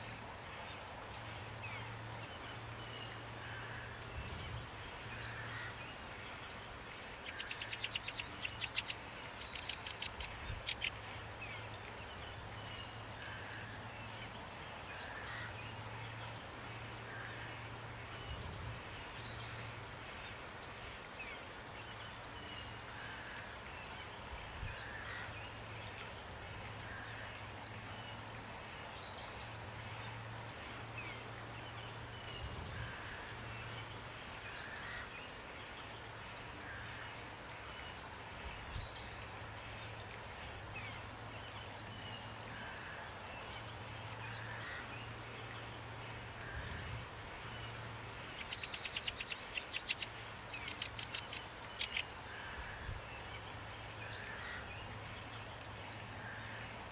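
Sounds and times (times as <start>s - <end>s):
rain hiss: 0.0s - 56.9s
songbirds chirping: 0.0s - 56.9s.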